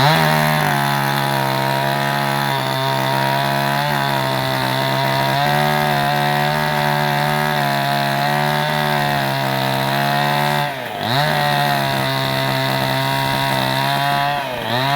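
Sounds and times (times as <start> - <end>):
chainsaw cutting: 0.0 - 14.9.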